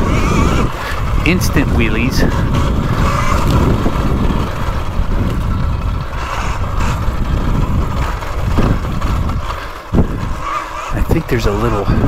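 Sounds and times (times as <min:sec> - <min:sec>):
tyres and wind rumble: 0:00.0 - 0:12.0.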